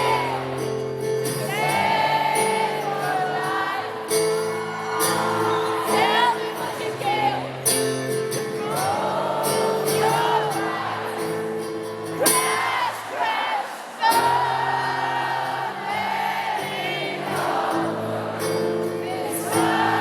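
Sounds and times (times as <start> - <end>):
acoustic rock instrumental chords: 0.0 - 13.2, 14.1 - 20.0.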